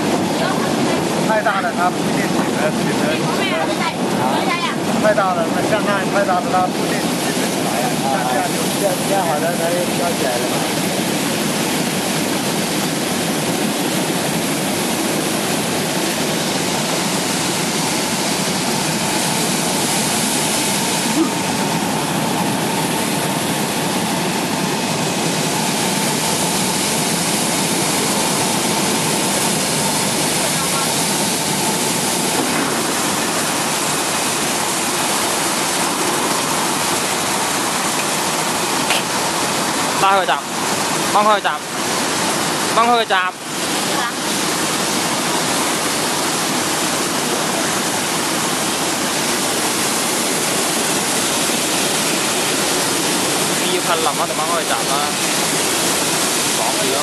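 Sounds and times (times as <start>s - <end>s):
faint steady whine: 0.0s - 57.0s
water churning and bubbling: 0.0s - 57.0s.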